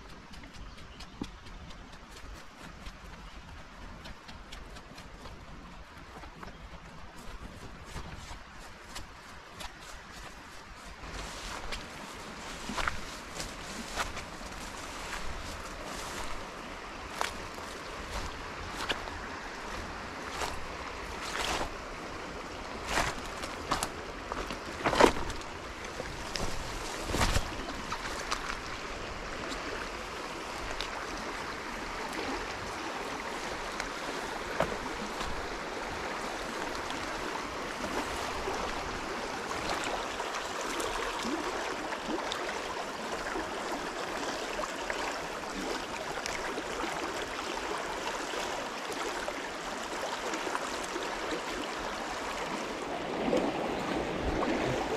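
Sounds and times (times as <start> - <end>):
stream water rushing over rocks: 7.2 - 54.9.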